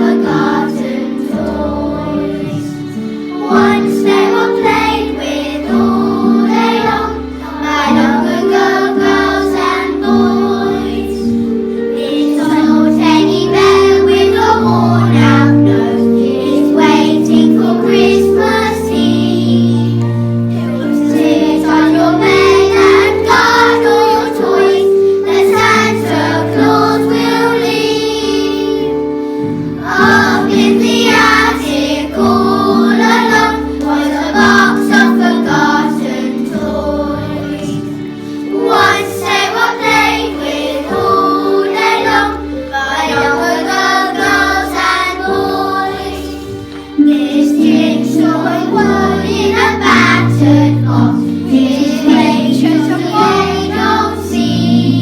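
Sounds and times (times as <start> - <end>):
children singing: 0.0 - 55.0
instrumental accompaniment: 0.0 - 55.0.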